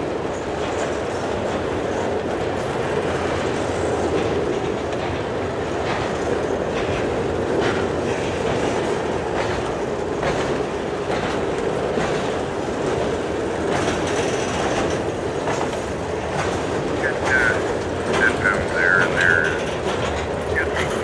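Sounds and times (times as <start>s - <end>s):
train wheels rumbling on rails: 0.0s - 21.0s
wheels clacking over rail joints: 0.0s - 21.0s.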